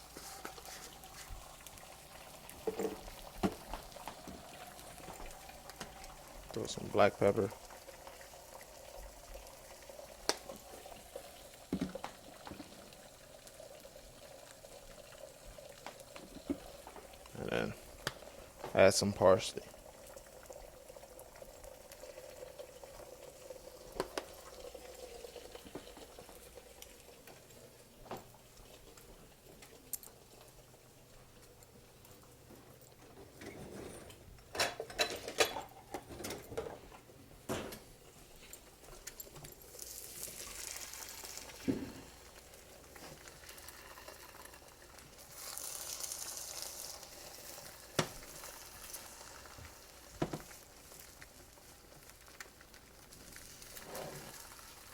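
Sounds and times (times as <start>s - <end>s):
egg whites sizzling in a pan: 0.0s - 32.5s, 37.9s - 54.9s.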